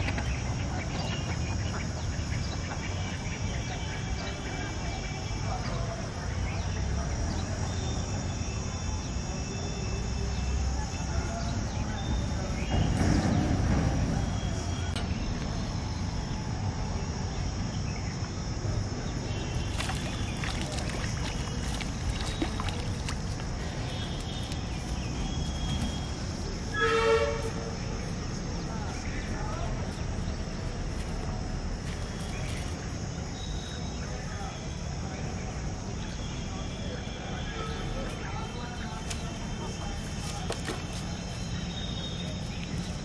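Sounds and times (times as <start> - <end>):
distant traffic rumble: 0.0 - 43.0
faint insect drone: 0.0 - 43.0.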